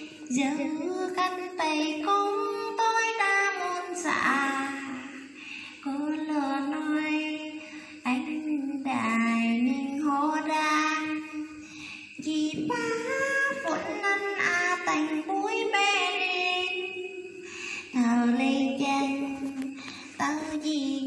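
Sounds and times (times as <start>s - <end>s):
woman singing folk ballad: 0.0s - 21.0s.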